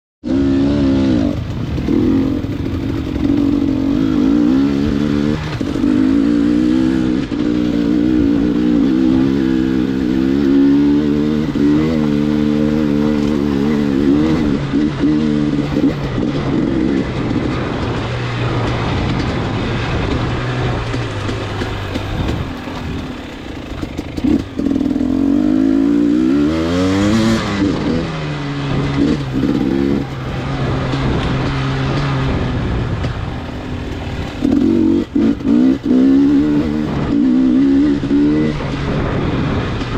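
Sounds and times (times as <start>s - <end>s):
road noise: 0.2s - 39.9s
vehicle engine running: 0.9s - 39.9s.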